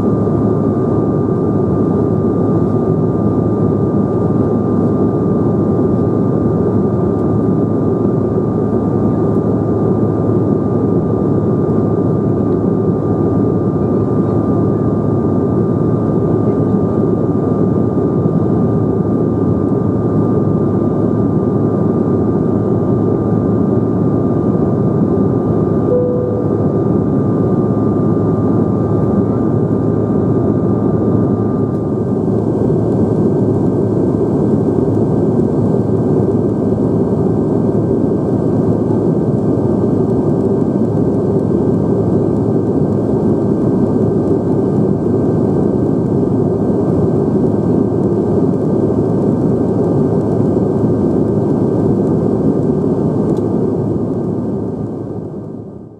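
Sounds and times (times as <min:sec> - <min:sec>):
jet engine and airflow rush: 0:00.0 - 0:55.9
thin steady whine: 0:00.0 - 0:55.9.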